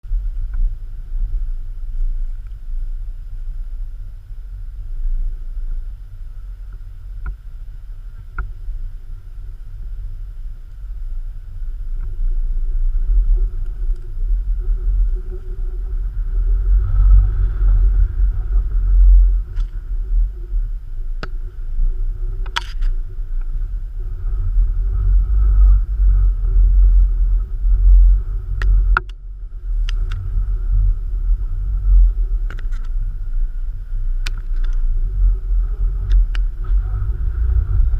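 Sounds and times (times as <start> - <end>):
heavy low rumble: 0.0 - 37.9.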